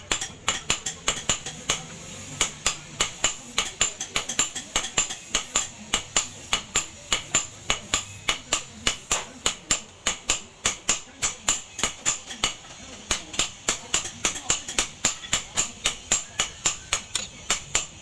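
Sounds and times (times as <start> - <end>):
hammer striking hot steel on anvil: 0.0 - 18.0.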